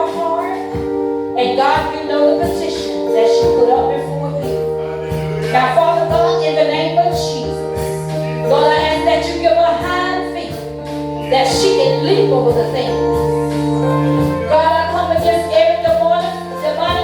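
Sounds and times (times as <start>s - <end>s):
long held chords: 0.0s - 17.0s.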